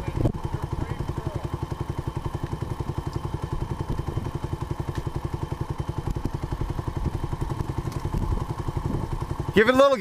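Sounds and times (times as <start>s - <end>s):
small engine putting: 0.0s - 10.0s.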